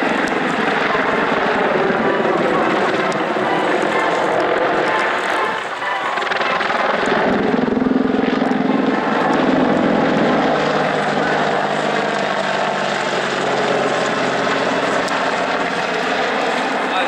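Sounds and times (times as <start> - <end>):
low hum: 0.0 - 16.9
helicopter engine noise: 0.0 - 17.0
helicopter rotor chop: 0.0 - 17.0.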